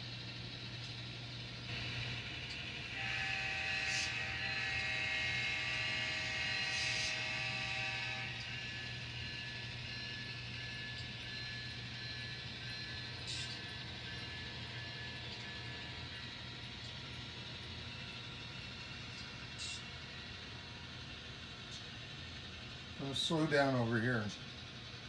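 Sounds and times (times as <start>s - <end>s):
model locomotive motor hum: 0.0s - 25.0s.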